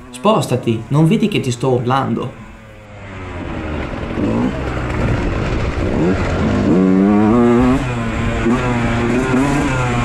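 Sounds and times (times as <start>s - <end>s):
two-stroke motorcycle engine revving: 0.0s - 10.0s.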